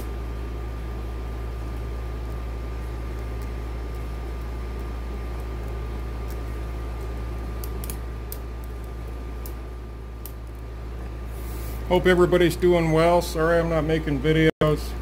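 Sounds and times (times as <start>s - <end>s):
faint steady whine: 0.0s - 15.0s
steady low hum: 0.0s - 15.0s.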